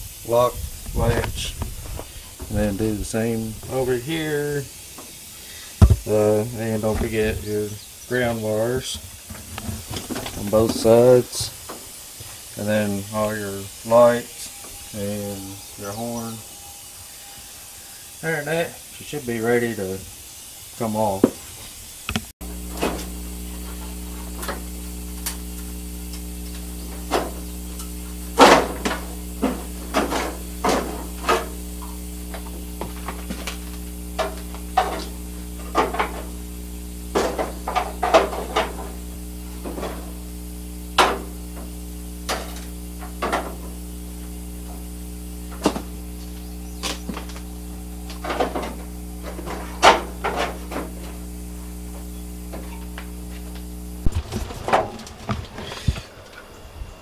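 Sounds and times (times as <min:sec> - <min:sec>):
steady low hum: 0:00.0 - 0:21.3, 0:21.9 - 0:57.0.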